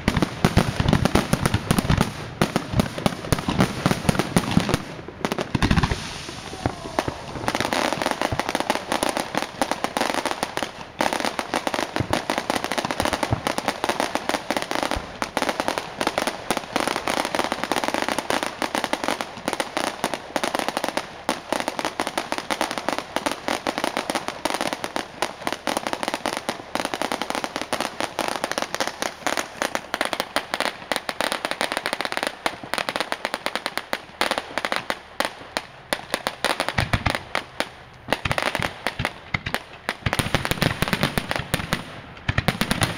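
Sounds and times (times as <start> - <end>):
fireworks crackling and popping: 0.0 - 42.9.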